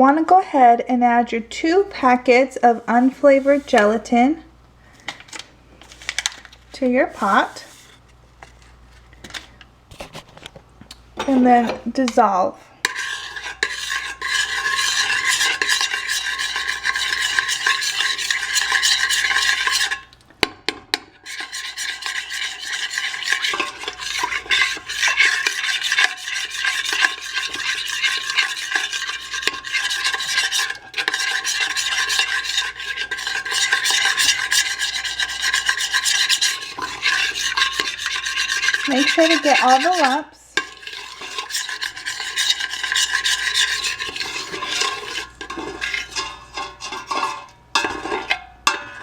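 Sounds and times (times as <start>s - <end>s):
spoon stirring and scraping pot: 1.7s - 4.3s, 5.8s - 10.6s, 11.2s - 49.0s.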